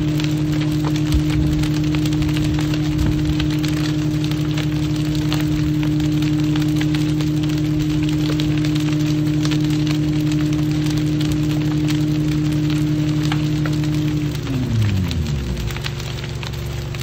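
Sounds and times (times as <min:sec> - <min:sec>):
dense continuous crackling: 0:00.0 - 0:17.0
engine droning: 0:00.0 - 0:17.0.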